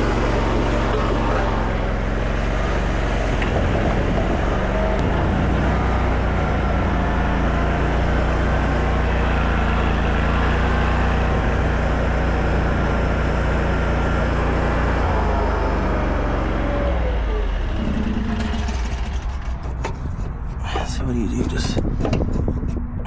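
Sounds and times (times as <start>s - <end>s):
small engine running steadily: 0.0s - 23.0s.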